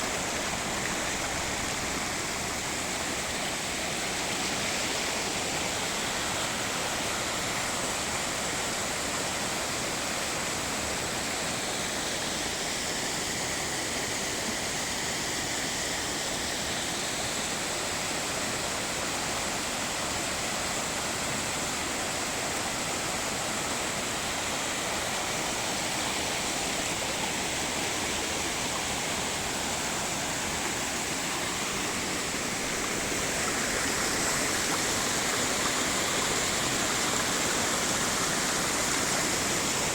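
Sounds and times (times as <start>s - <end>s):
water rushing over rock: 0.0s - 13.7s, 17.2s - 39.9s.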